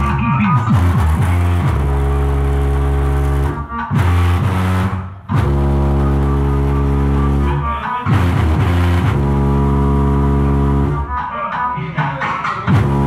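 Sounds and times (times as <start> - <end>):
bass-heavy music from car speakers: 0.0 - 13.0.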